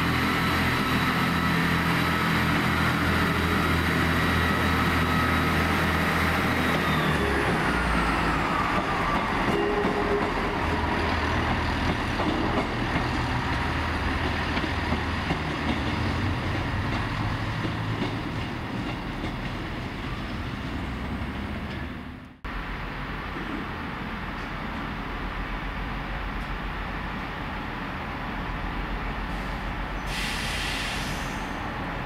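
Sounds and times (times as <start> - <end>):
diesel train engine: 0.0 - 32.0.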